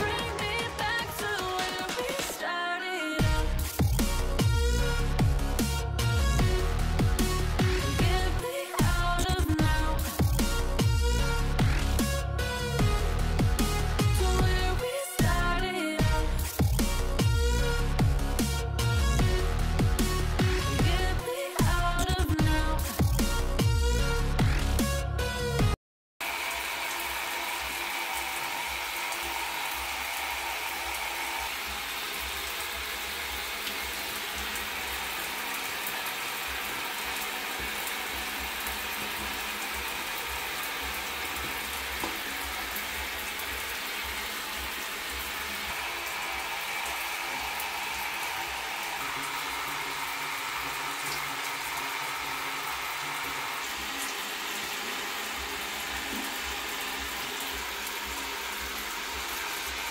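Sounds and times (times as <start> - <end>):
shower water on tiled floor: 3.2 - 24.6, 26.2 - 59.9.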